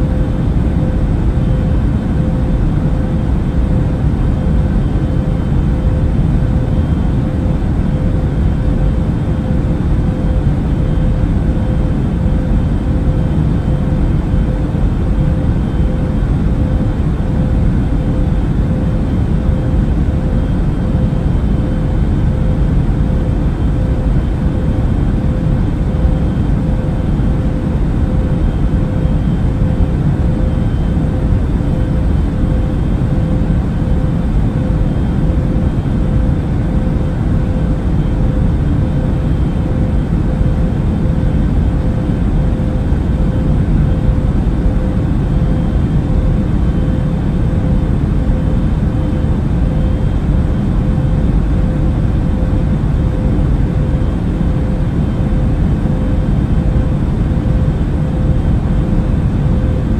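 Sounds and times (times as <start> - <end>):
airplane low rumble: 0.0 - 59.9
faint constant hum: 0.0 - 59.9.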